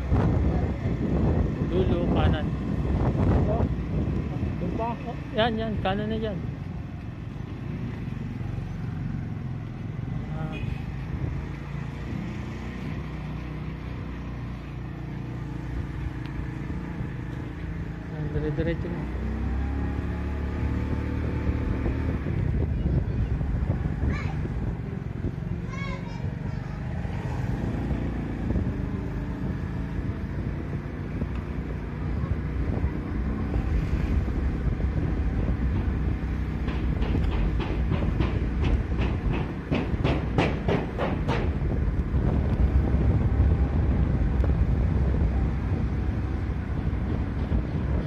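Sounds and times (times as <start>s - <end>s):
road and wind noise: 0.0s - 48.0s
vehicle engine low rumble: 0.0s - 48.0s.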